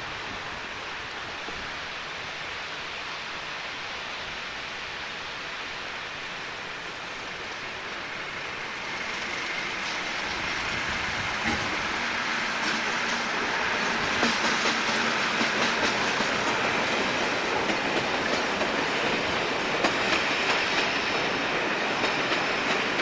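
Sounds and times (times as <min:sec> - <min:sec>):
diesel train approaching: 0:00.0 - 0:23.0.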